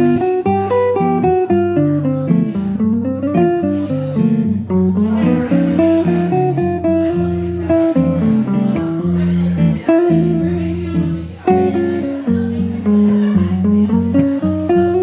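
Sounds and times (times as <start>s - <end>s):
electric guitar fingerstyle: 0.0s - 15.0s.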